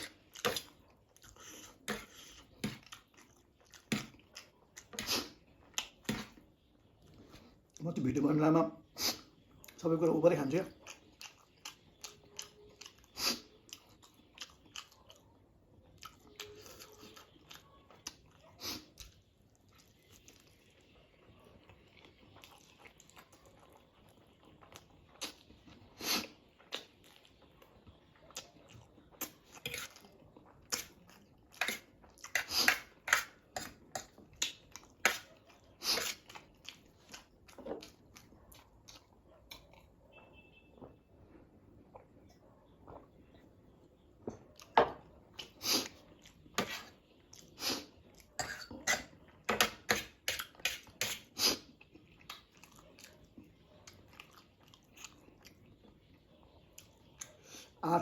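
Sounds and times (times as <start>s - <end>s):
close chewing and mouth sounds: 0.0s - 8.2s, 8.8s - 58.0s.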